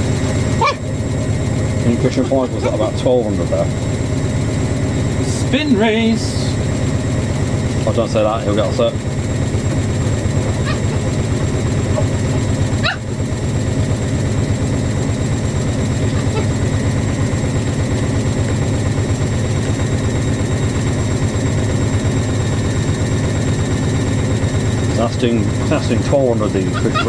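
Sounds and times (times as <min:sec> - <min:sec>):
faint motor whine: 0:00.0 - 0:27.0
washing machines spinning: 0:00.0 - 0:27.0.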